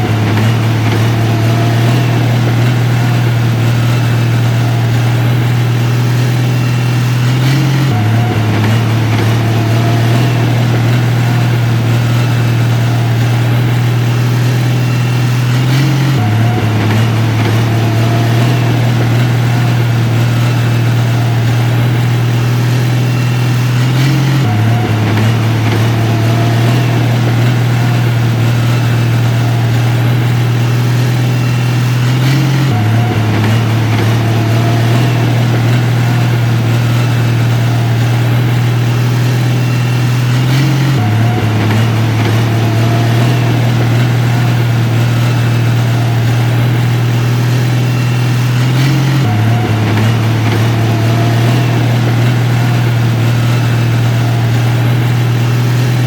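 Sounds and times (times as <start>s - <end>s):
heavy machine engine humming: 0.0s - 56.0s.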